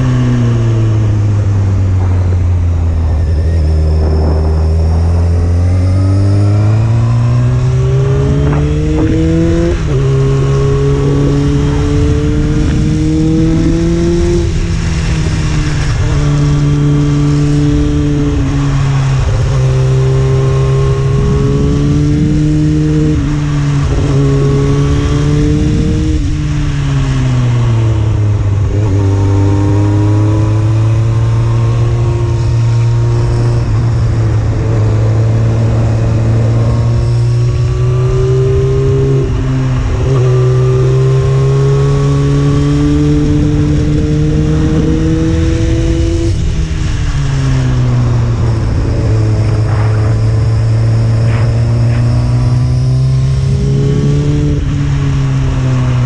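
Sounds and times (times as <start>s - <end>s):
motorcycle engine revving: 0.0s - 56.0s
wind noise: 0.0s - 56.0s.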